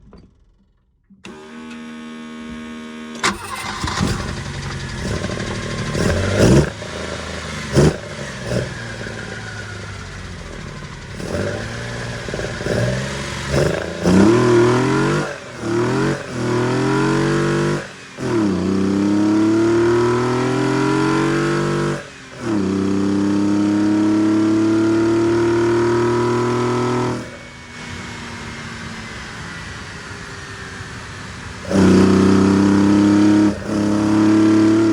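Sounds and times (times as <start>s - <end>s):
engine cranking and revving: 1.2s - 34.9s.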